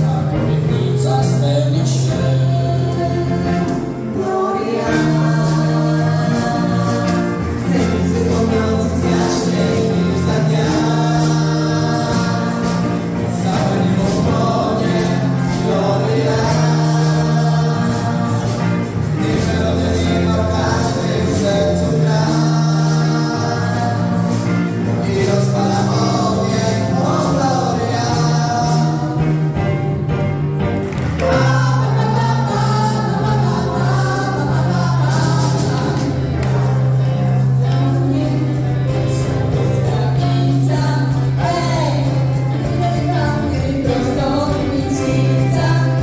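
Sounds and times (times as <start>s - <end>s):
teenagers singing a carol: 0.0s - 29.5s, 31.2s - 46.0s
piano accompaniment: 0.0s - 46.0s.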